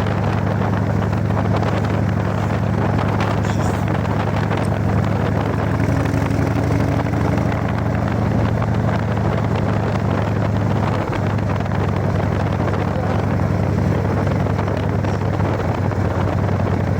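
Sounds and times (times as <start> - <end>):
motorcycle engine rumbling: 0.0 - 16.9.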